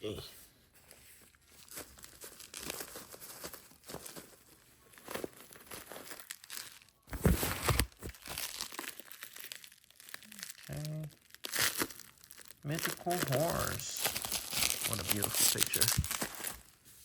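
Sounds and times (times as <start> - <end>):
packaging crinkling and tearing: 1.3 - 16.8.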